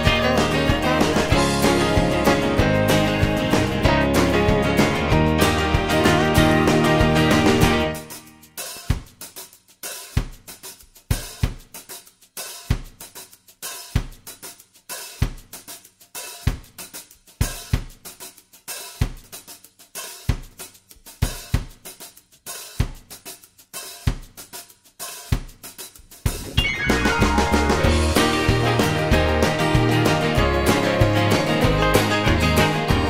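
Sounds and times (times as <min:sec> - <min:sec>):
drum kit beat: 0:00.0 - 0:33.0.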